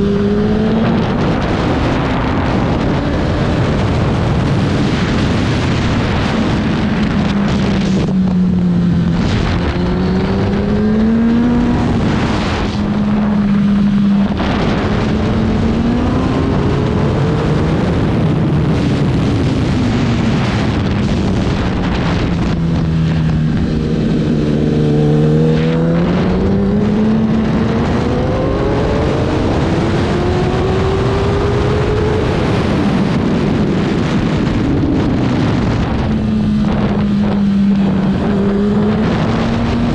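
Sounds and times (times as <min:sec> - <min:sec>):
racing motorcycle engine: 0:00.0 - 0:39.9
wind rush: 0:00.0 - 0:39.9.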